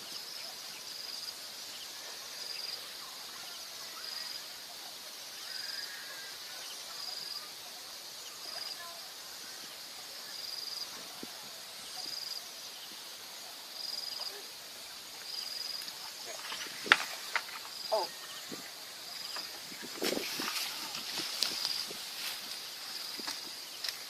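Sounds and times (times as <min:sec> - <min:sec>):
insect chirping in high trills: 0:00.0 - 0:24.0.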